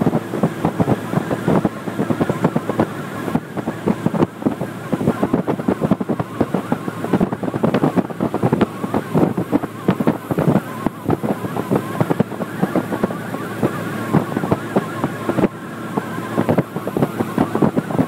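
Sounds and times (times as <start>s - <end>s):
motorboat motor running: 0.0s - 18.0s
wind buffeting microphone: 0.0s - 18.0s.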